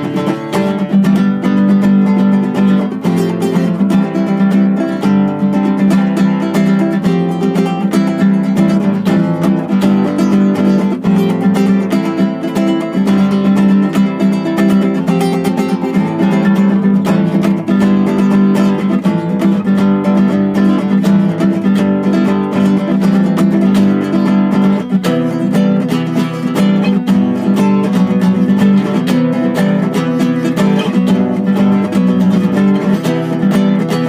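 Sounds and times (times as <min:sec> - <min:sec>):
acoustic guitar strummed: 0:00.0 - 0:34.0.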